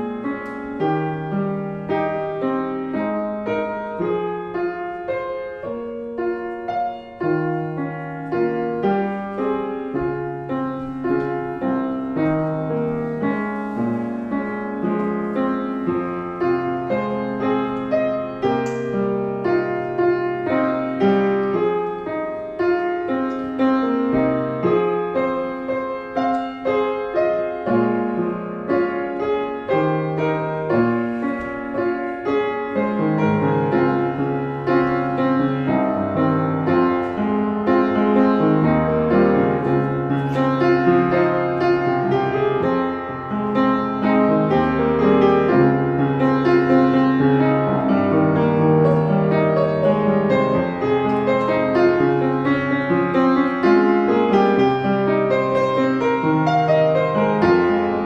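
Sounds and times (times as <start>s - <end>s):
solo piano melody: 0.0s - 58.0s.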